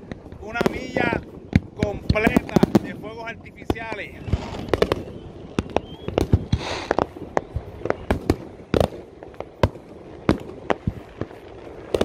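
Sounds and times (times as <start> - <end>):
fireworks bangs and pops: 0.0 - 12.0.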